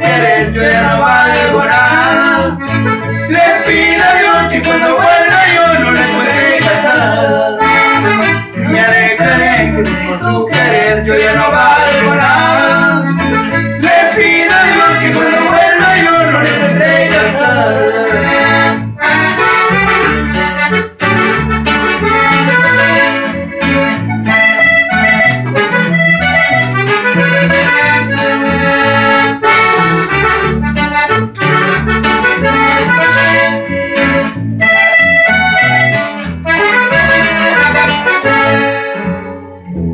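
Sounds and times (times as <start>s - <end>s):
button accordion melody: 0.0s - 39.9s
electric bass line: 0.0s - 39.9s
strummed guitar: 0.0s - 39.9s.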